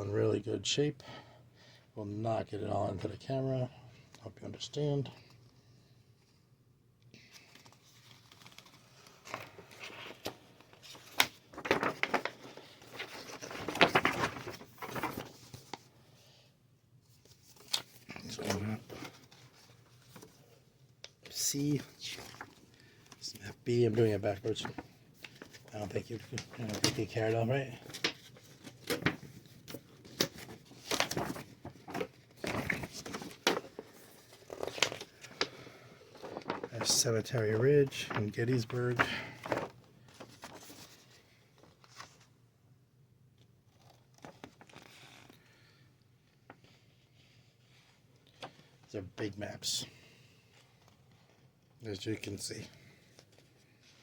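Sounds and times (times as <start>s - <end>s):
paper maps crinkling: 7.2s - 42.4s, 43.3s - 54.0s.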